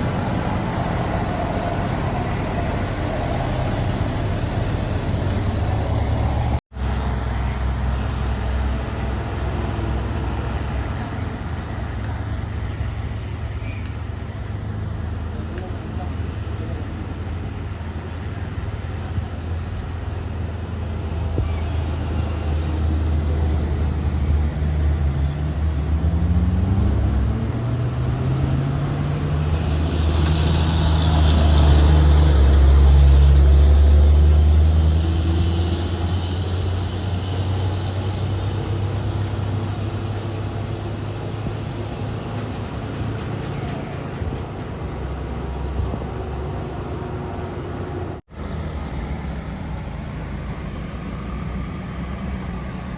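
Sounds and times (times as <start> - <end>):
truck engine revving: 0.0 - 12.6, 19.9 - 45.6, 48.3 - 52.9.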